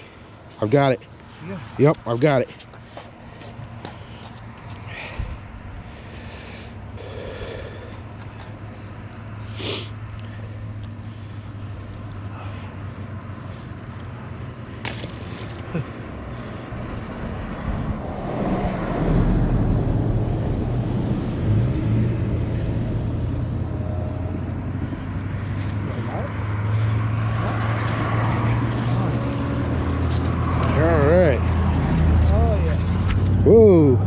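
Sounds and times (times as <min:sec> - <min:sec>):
road traffic hum: 0:00.0 - 0:34.0
vehicle passing: 0:00.0 - 0:34.0.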